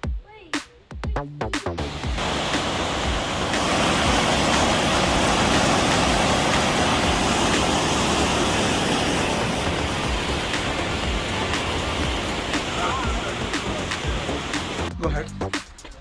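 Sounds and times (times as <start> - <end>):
waterfall rushing: 1.8 - 15.0.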